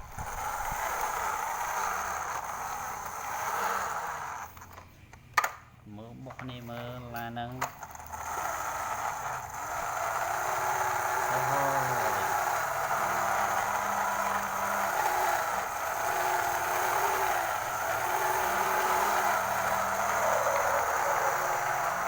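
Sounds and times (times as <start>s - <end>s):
toy motor and gears whirring: 0.0s - 4.9s, 6.4s - 22.0s.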